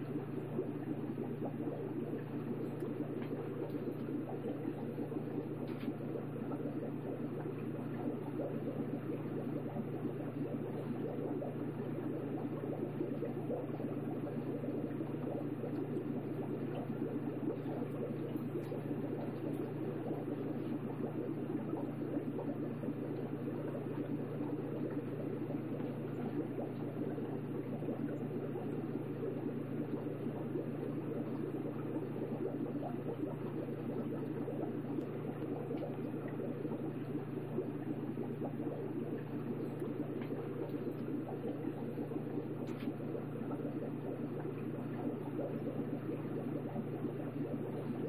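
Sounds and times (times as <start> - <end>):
aquarium water bubbling: 0.0 - 48.0
pump hum: 0.0 - 48.0.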